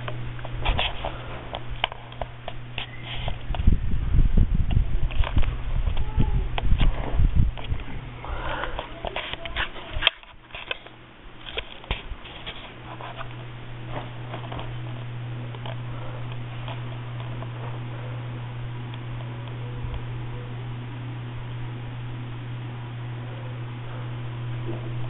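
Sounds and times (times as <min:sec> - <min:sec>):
ceiling fan humming: 0:00.0 - 0:25.0.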